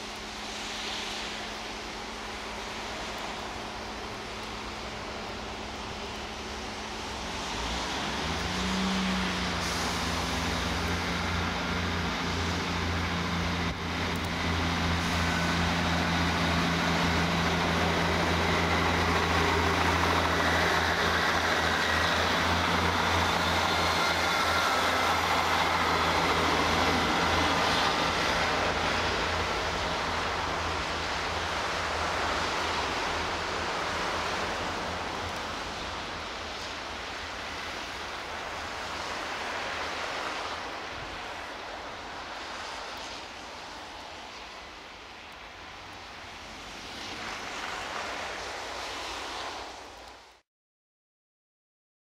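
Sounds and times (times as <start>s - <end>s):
diesel engine drone: 0.0s - 49.8s
wheels rushing on rails: 0.0s - 50.4s.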